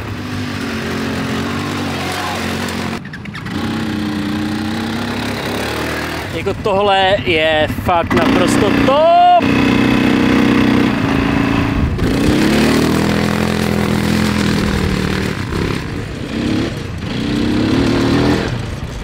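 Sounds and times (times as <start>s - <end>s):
quad bike engine revving: 0.0s - 19.0s.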